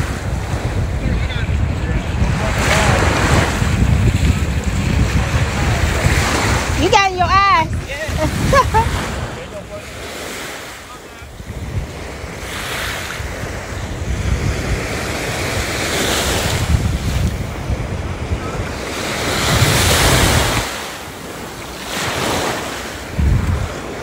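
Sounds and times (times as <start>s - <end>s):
small waves breaking on beach: 0.0s - 24.0s
wind rumbling on microphone: 0.0s - 24.0s.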